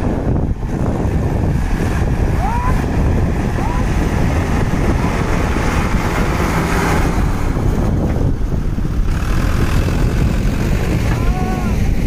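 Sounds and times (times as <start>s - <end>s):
tractor diesel engine under load: 0.0s - 12.0s
wind buffeting microphone: 0.0s - 12.0s.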